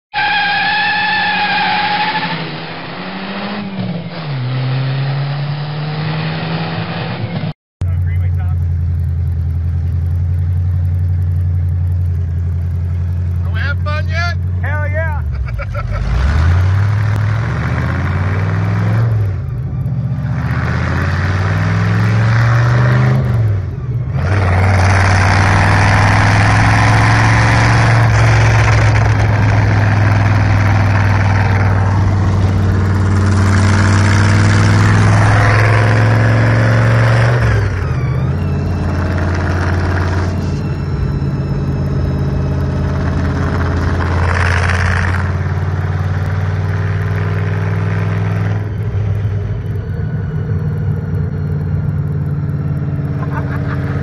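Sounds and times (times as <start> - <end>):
supercharged engine revving: 0.2 - 54.0.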